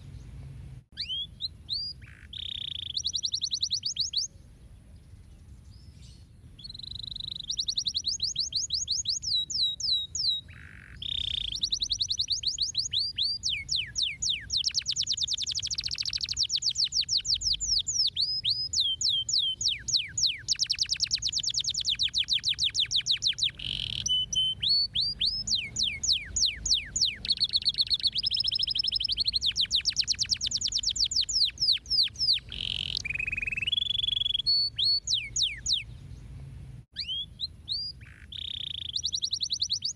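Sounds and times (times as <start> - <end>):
canary singing trills: 0.9 - 36.3, 36.9 - 39.9.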